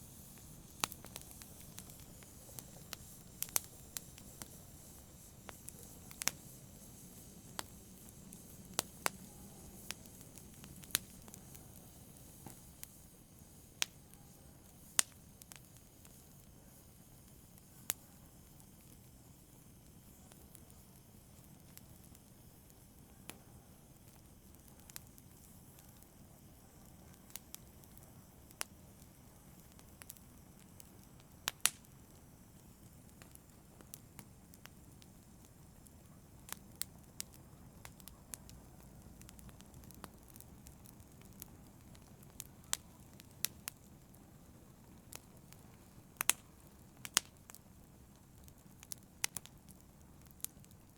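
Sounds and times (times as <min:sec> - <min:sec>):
fireplace fire crackling: 0:00.0 - 0:50.9.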